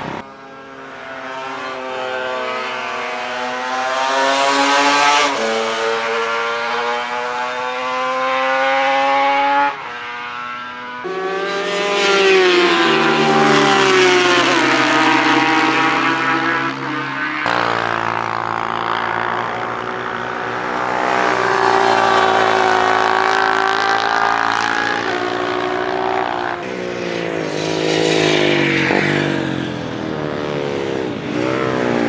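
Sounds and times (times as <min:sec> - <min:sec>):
motorcycle engine accelerating: 0:00.0 - 0:32.0
motorcycle engine passing by: 0:00.0 - 0:32.0.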